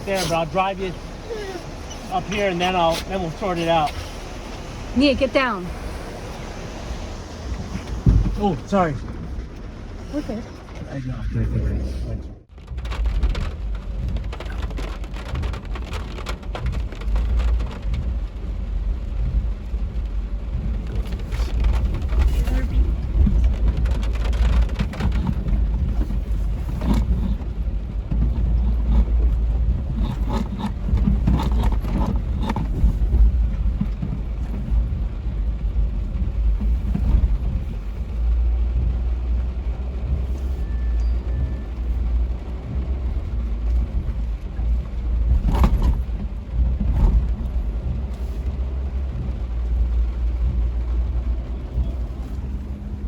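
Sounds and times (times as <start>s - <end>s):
truck driving through water: 0.0s - 53.0s.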